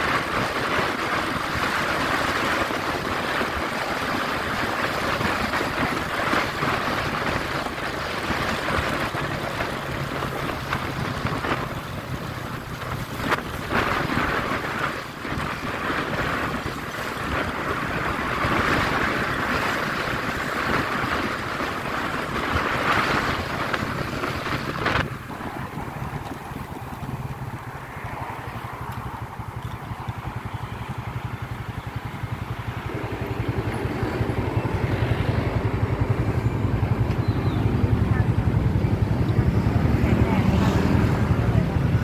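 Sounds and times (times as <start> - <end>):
motorcycle engine humming: 0.0 - 42.0
wind rushing over microphone: 0.0 - 42.0.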